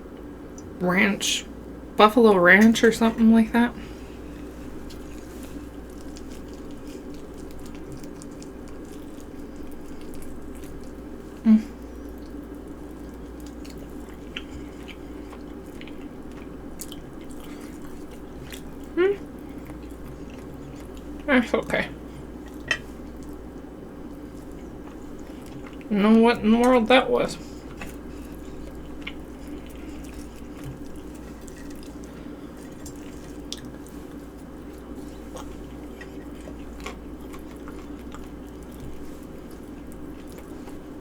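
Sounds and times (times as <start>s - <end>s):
steady low hum: 0.0s - 41.0s
person chewing food: 3.8s - 21.3s, 21.9s - 25.9s, 27.4s - 41.0s.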